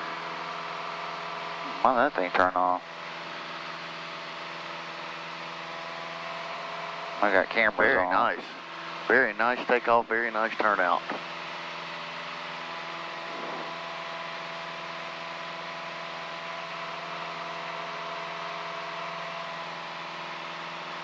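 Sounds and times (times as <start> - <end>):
propeller plane engine droning: 0.0 - 21.0.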